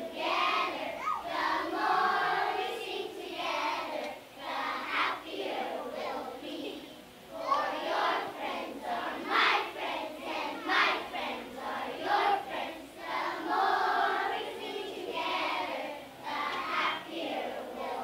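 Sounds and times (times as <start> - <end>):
children singing in chorus: 0.0 - 18.0.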